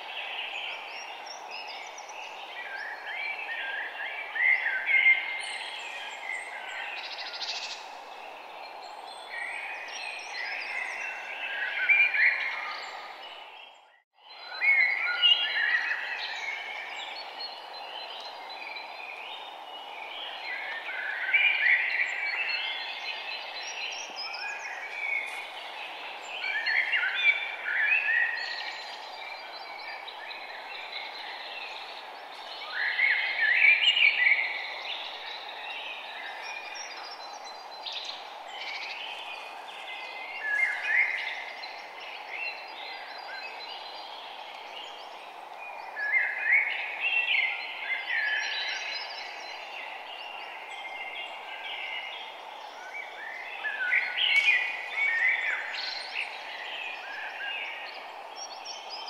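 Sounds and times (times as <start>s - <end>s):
songbirds warbling: 0.0s - 59.0s.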